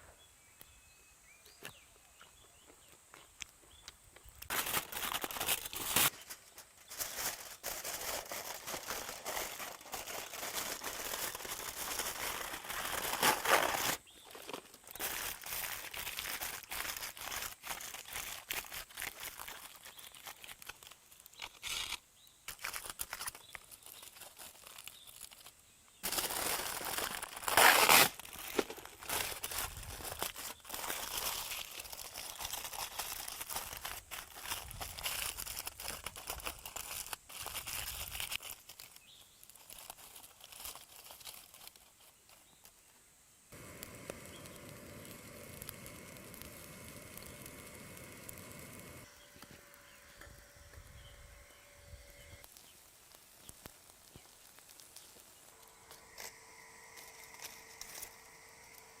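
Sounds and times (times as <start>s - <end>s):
small clicks and crackles: 2.9s - 50.9s, 52.3s - 59.0s
food packaging crinkling: 4.2s - 42.8s, 43.5s - 51.6s, 52.4s - 59.0s.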